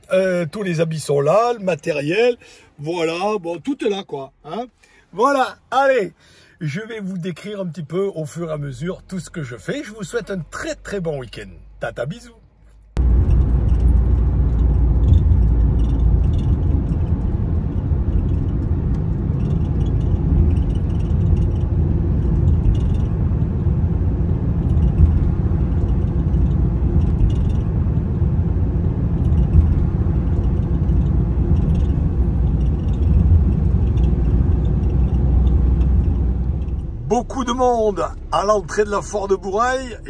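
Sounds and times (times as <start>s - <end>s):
vehicle engine and tyre rumble: 6.3s - 40.0s.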